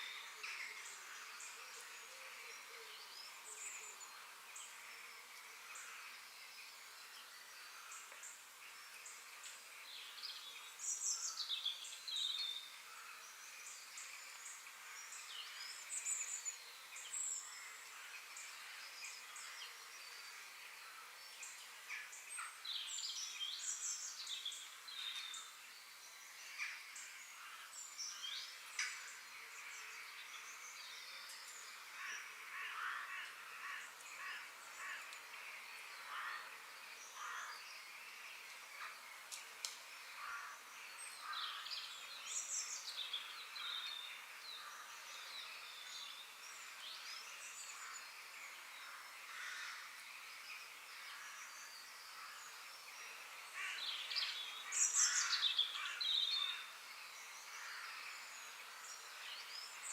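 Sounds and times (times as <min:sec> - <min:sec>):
songbirds chirping: 0:00.0 - 0:59.9
steady high hiss: 0:00.0 - 0:59.9.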